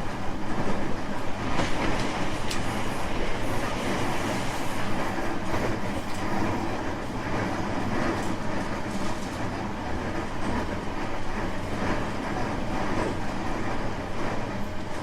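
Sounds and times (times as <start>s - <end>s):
faint rail-joint clacks: 0.0s - 15.0s
train wheels rumbling on rail: 0.0s - 15.0s.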